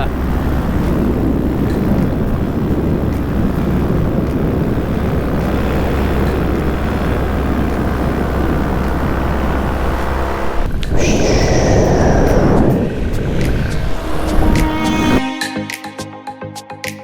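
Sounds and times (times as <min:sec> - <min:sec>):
paramotor engine and propeller: 0:00.0 - 0:15.2
wind on microphone: 0:00.0 - 0:15.2.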